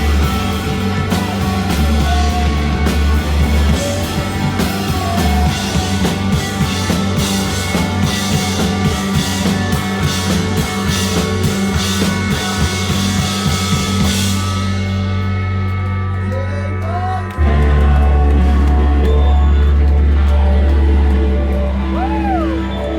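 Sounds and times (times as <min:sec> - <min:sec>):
guitar and bass: 0:00.0 - 0:22.9.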